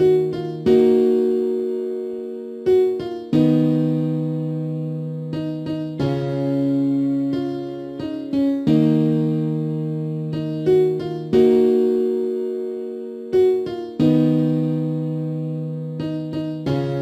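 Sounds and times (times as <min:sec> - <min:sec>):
piano melody over chords: 0:00.0 - 0:17.0.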